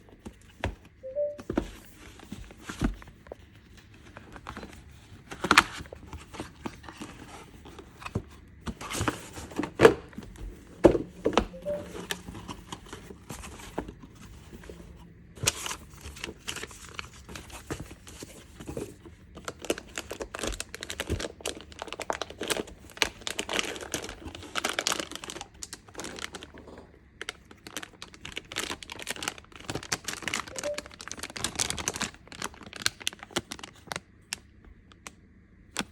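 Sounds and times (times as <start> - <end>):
plastic crinkling and rustling: 1.5 - 14.8, 15.4 - 35.2.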